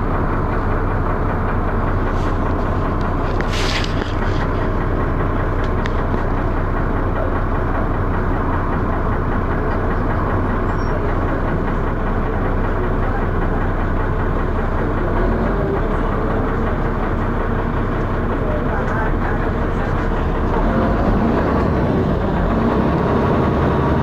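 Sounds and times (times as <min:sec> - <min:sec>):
bus engine drone: 0:00.0 - 0:24.0
loud knocking noise: 0:04.7 - 0:24.0.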